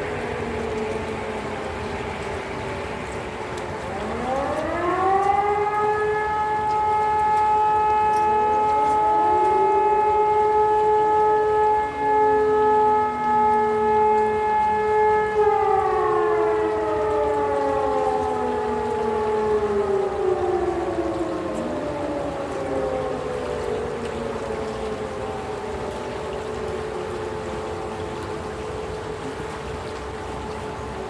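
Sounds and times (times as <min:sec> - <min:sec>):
distant fire siren: 0:00.0 - 0:31.0
fainter second siren: 0:00.0 - 0:31.0.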